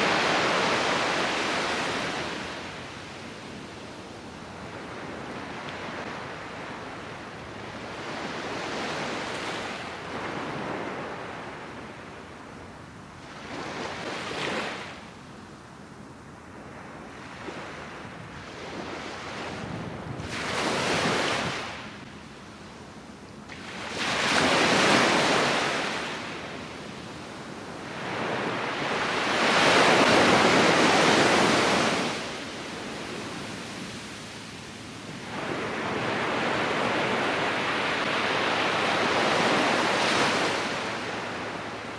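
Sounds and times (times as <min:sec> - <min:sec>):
waves breaking on shore: 0:00.0 - 0:12.2, 0:17.1 - 0:22.0, 0:23.4 - 0:41.9.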